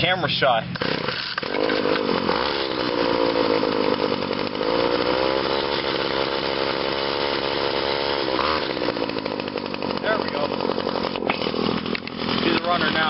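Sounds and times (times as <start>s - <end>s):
string trimmer engine running unevenly: 0.7s - 13.0s.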